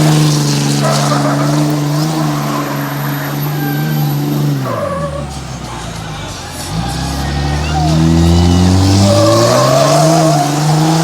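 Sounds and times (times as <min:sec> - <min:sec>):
diesel engine revving: 0:00.0 - 0:11.0
tyres spinning: 0:00.0 - 0:11.0.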